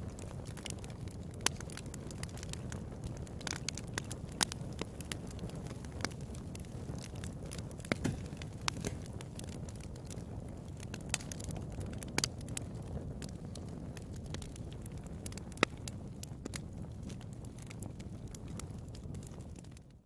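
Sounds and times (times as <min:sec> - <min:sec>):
sharp pops from fire: 0:00.0 - 0:20.0
wood fire crackling: 0:00.0 - 0:20.0.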